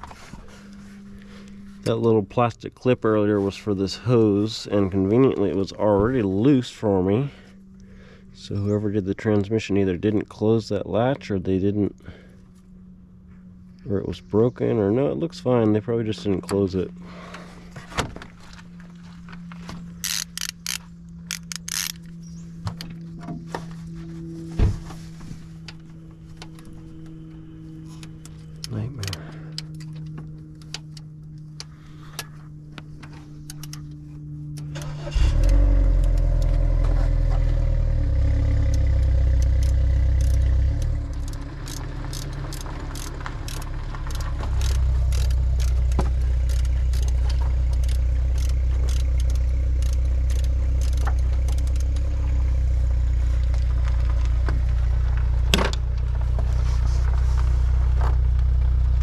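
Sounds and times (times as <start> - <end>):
steady low hum: 0.0 - 59.0
vehicle engine running: 0.0 - 59.0.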